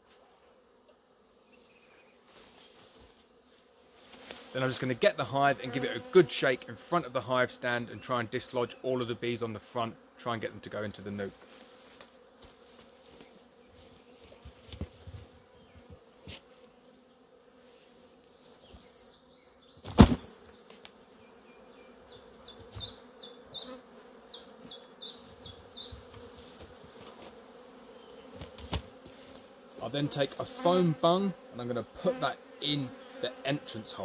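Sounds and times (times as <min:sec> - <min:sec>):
bees buzzing: 0:00.2 - 0:34.0.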